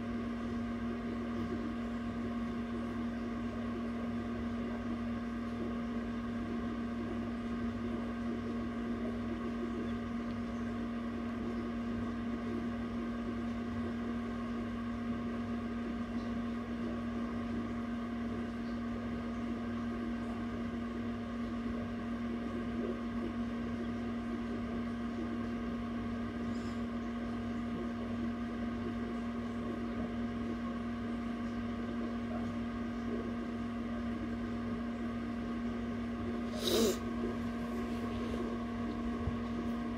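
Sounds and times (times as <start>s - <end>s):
egg incubator fan humming: 0.0s - 39.9s.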